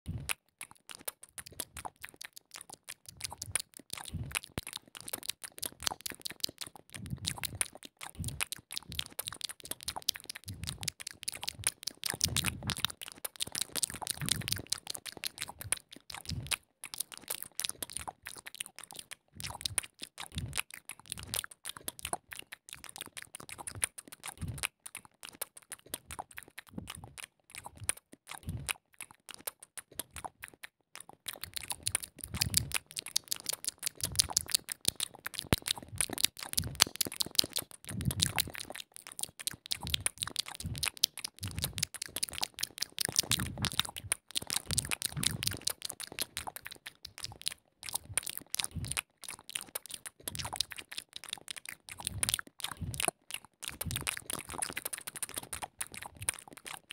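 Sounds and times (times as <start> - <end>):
caterpillar chewing leaves: 0.1 - 56.9.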